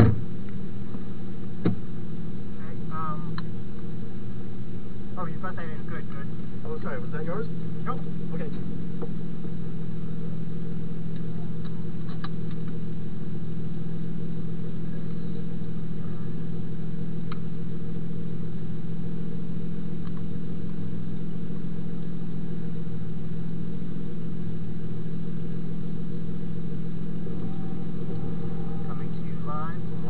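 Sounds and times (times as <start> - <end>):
car engine idling from cabin: 0.0 - 30.0.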